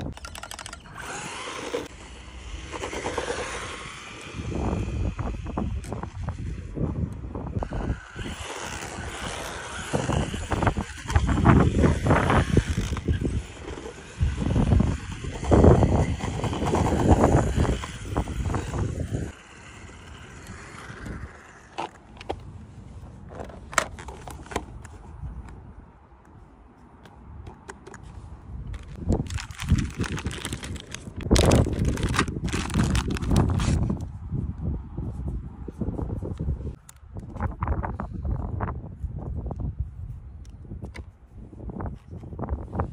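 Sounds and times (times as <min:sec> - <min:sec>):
wind buffeting microphone: 0:00.0 - 0:26.1, 0:27.2 - 0:42.9.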